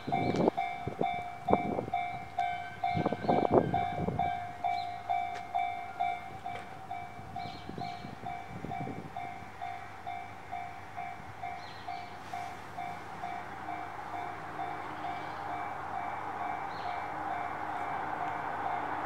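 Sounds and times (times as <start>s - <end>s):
level crossing warning bell: 0.0s - 19.0s.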